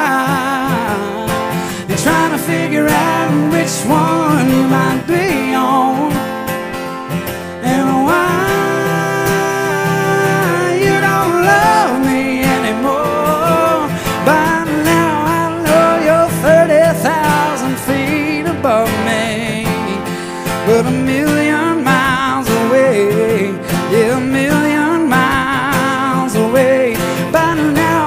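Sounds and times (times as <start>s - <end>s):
man singing: 0.0s - 6.5s, 7.4s - 28.0s
acoustic guitar strumming: 0.0s - 28.0s.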